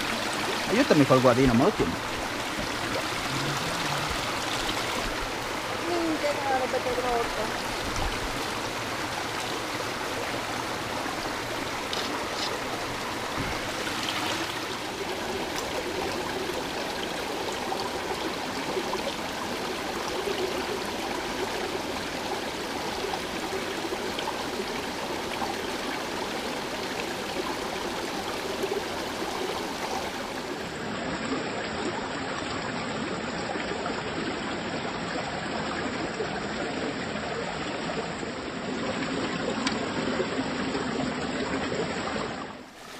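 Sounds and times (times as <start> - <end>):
stream rushing over boulders: 0.0 - 42.9.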